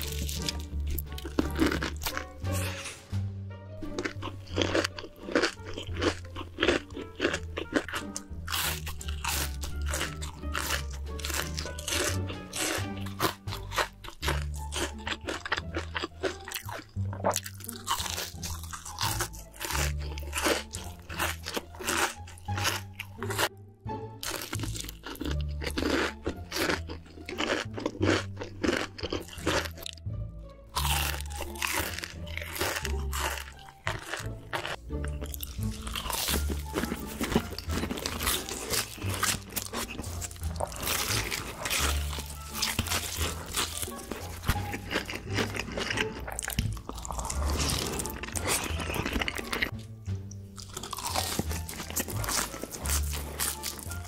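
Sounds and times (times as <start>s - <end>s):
crisp crunching and chewing: 0.0s - 3.0s, 3.8s - 23.5s, 24.2s - 30.0s, 30.8s - 54.0s
background music with bass line: 0.0s - 54.0s.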